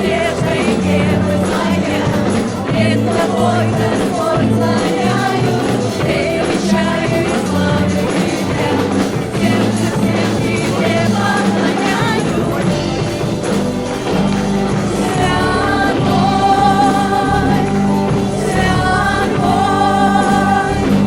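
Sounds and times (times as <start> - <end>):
gospel band playing: 0.0 - 21.0
voices singing: 0.0 - 21.0.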